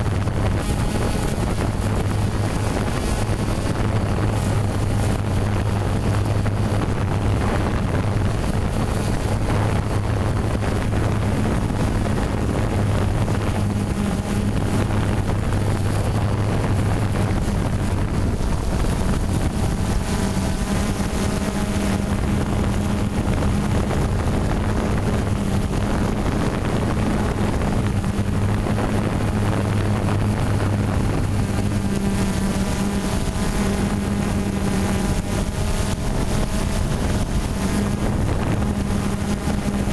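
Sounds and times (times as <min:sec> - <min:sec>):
drone propellers buzzing: 0:00.0 - 0:39.9
wind on microphone: 0:00.0 - 0:39.9.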